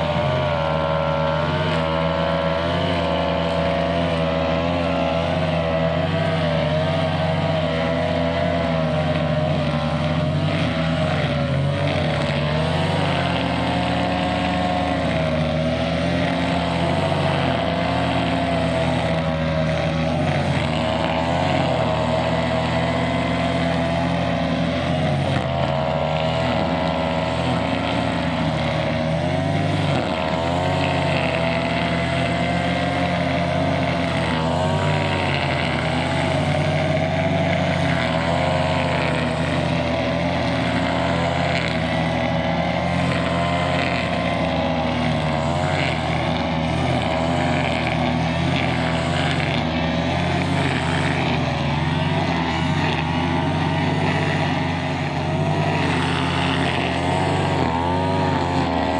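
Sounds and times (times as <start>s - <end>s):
brushcutter engine cutting grass: 0.0s - 58.9s.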